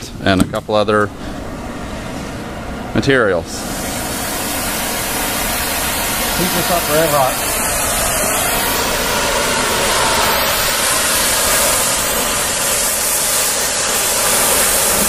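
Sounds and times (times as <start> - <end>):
gas torch flame hissing: 0.6 - 15.0.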